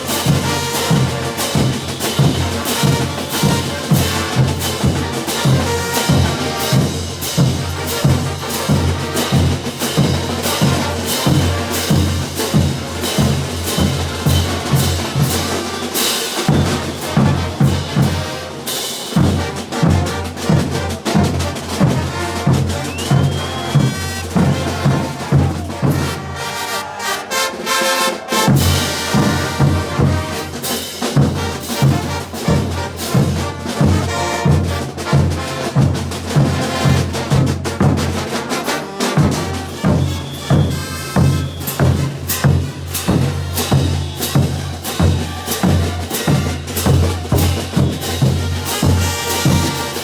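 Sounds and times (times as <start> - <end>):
bass drum and cymbals: 0.0 - 50.0
brass band playing: 0.0 - 50.0.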